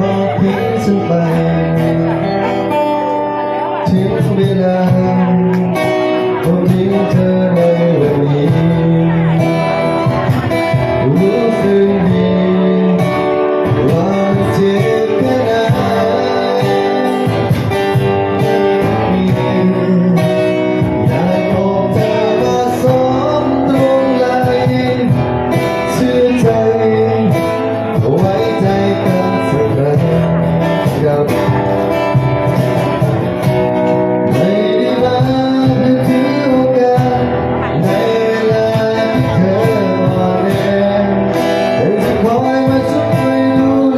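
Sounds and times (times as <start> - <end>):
guitar accompaniment: 0.0 - 43.9
man singing: 0.0 - 43.9.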